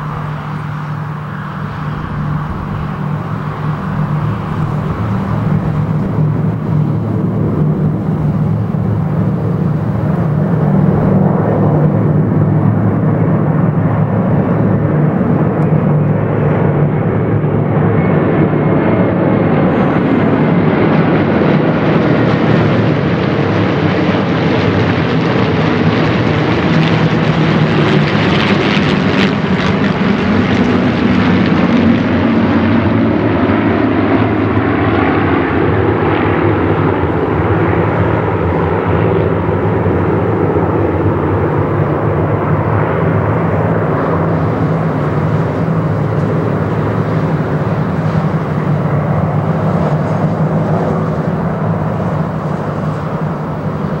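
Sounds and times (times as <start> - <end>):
propeller planes droning overhead: 0.0 - 54.0.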